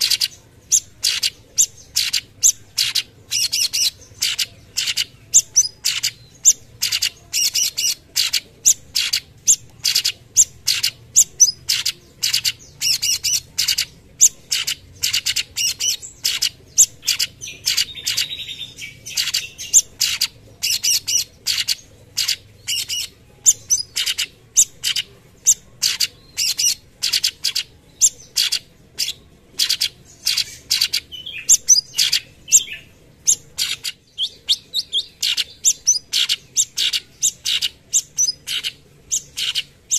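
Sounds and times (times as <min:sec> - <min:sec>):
bird singing high chirps: 0:00.0 - 0:39.9
bird warbling: 0:00.0 - 0:39.9.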